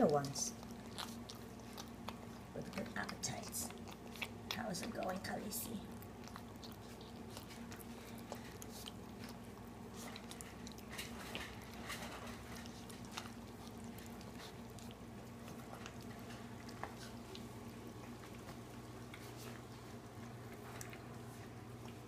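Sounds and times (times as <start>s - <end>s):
puppy eating wet food: 0.0s - 22.0s.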